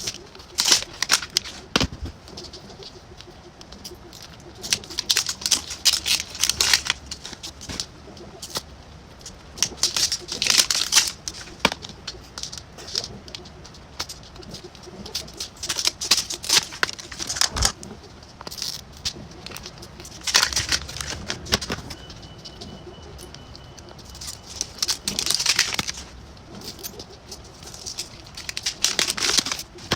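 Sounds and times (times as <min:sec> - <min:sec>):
plastic pieces clicking: 0:00.0 - 0:02.6, 0:03.2 - 0:07.8, 0:09.2 - 0:17.8, 0:18.4 - 0:22.3, 0:23.2 - 0:29.9
plastic packaging crinkling: 0:00.0 - 0:02.9, 0:04.1 - 0:08.6, 0:09.5 - 0:29.9.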